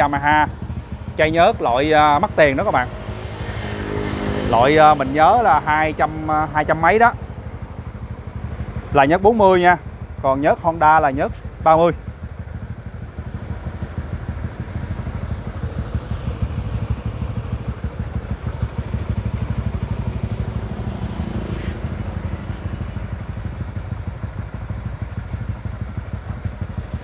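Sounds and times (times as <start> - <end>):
motorcycle engines idling: 0.0 - 27.0.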